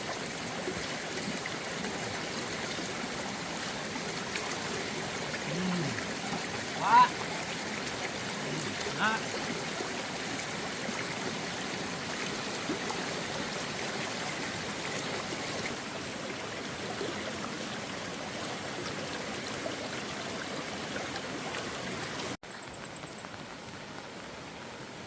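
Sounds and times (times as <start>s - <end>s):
rain and running water: 0.0s - 25.0s.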